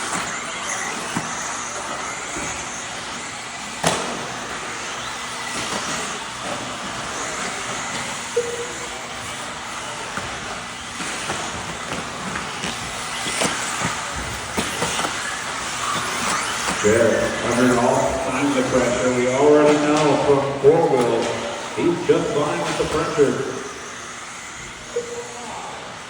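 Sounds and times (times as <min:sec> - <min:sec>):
small motor whine: 0:00.0 - 0:26.0.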